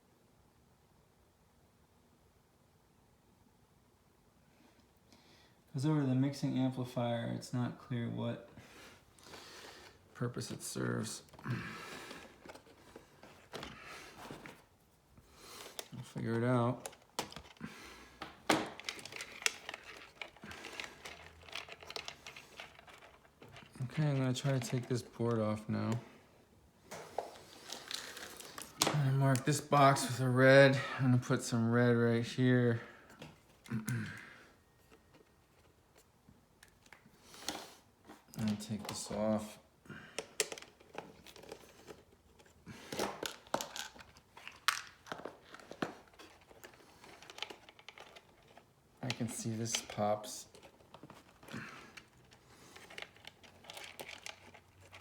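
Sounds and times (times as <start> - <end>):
crinkling of handled parts: 9.0 - 55.0.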